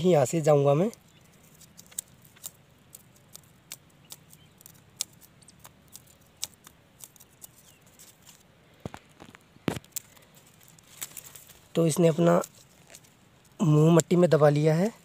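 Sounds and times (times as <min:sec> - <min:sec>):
clicks and crackles of dry grass: 0:00.0 - 0:15.0.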